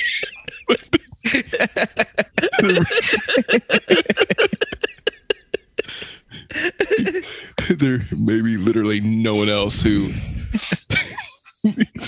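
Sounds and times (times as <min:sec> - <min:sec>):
men laughing: 0:00.0 - 0:08.2, 0:10.5 - 0:12.0.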